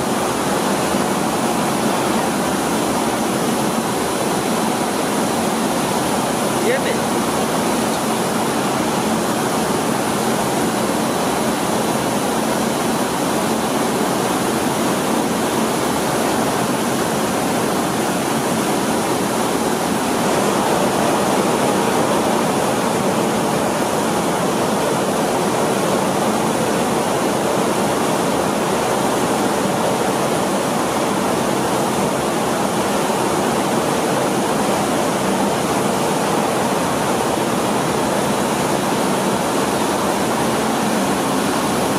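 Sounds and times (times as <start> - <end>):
rice grains streaming down chute: 0.0 - 41.9
rice-mill machinery rushing: 0.0 - 41.9.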